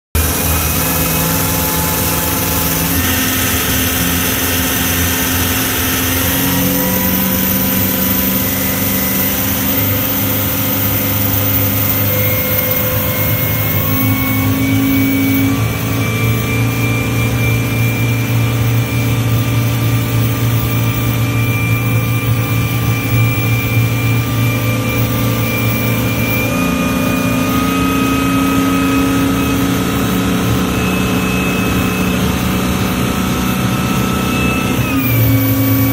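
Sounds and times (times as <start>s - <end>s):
diesel engine running hard: 0.1s - 35.9s.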